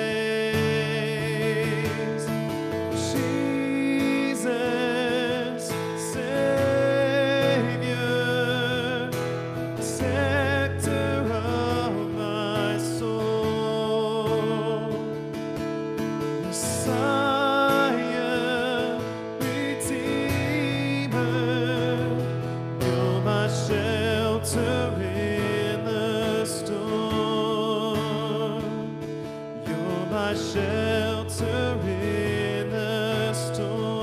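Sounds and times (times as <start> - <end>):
acoustic guitar: 0.0 - 34.0
man singing with vibrato: 0.0 - 34.0.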